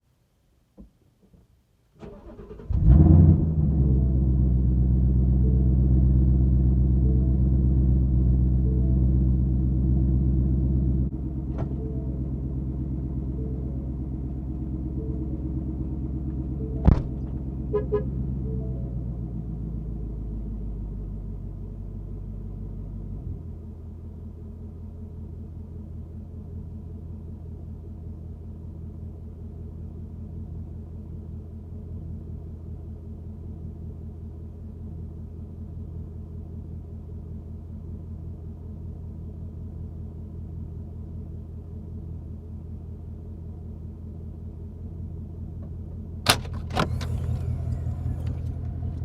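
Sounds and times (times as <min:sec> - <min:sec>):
car exhaust rumbling: 0:02.7 - 0:34.2, 0:39.9 - 0:49.0.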